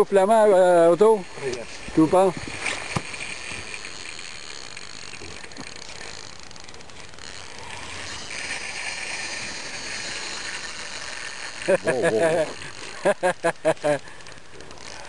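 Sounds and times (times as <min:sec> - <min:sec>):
fishing reel drag buzzing: 0:00.0 - 0:15.0.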